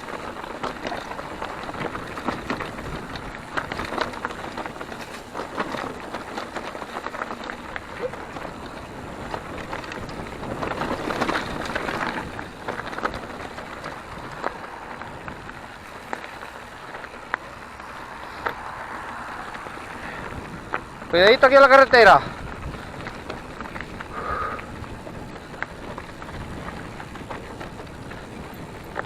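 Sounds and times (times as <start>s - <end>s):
bike rattling: 0.0s - 29.0s
bike tyres crunching on gravel: 0.0s - 29.0s.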